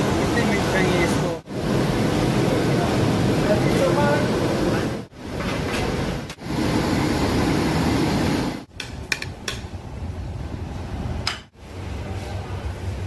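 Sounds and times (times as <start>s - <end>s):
gas burners and fans roaring: 0.0s - 13.0s
steady hum: 0.0s - 13.0s.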